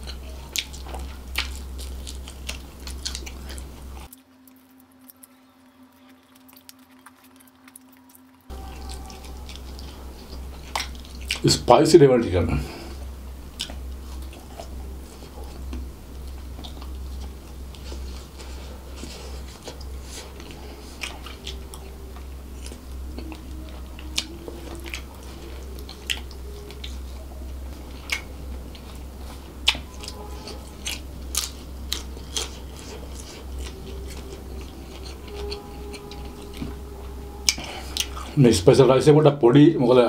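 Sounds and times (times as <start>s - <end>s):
chewing food close up: 0.0s - 11.8s, 12.6s - 38.9s
steady low hum: 0.0s - 40.0s.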